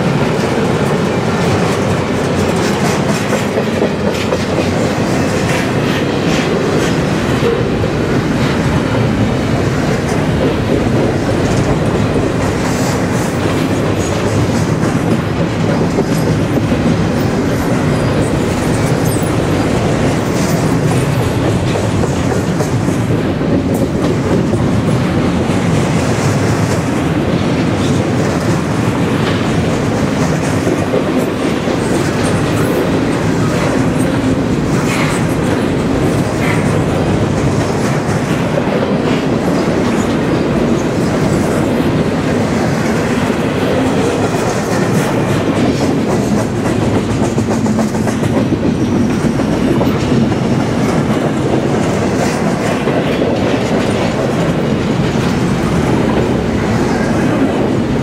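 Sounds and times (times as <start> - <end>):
train wheels rumbling on rail: 0.0 - 58.0
wheels clickety-clack: 0.0 - 58.0.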